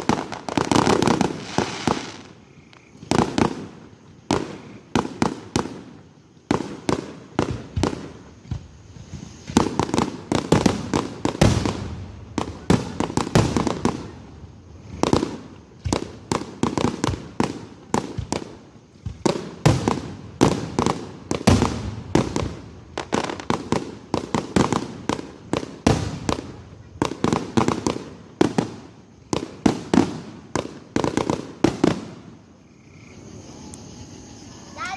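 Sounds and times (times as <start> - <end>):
fireworks crackle: 0.0 - 32.6.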